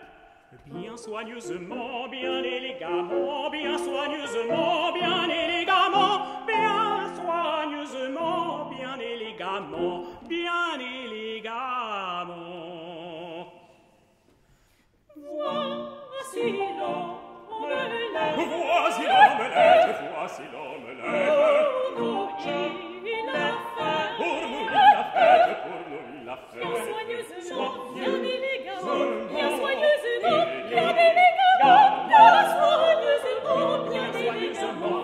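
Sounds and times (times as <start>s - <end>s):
operatic vocal quartet singing: 0.0s - 14.0s, 15.1s - 35.0s.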